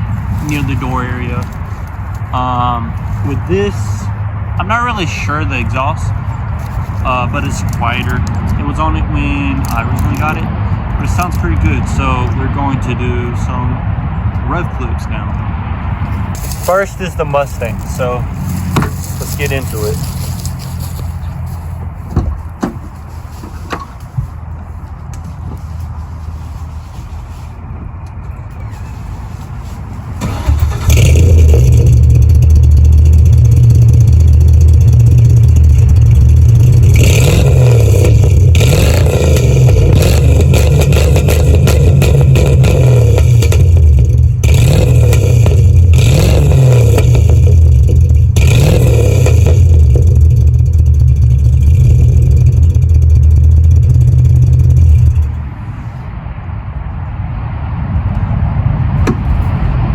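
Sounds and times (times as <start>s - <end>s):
car engine revving and idling: 0.0s - 23.0s, 28.3s - 59.9s.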